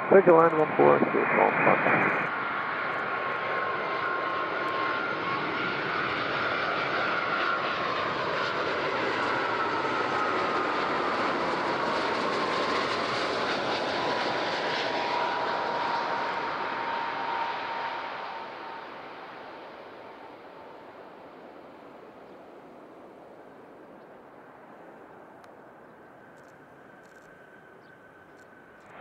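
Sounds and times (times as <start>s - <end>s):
jet airliner on approach: 0.0s - 29.0s.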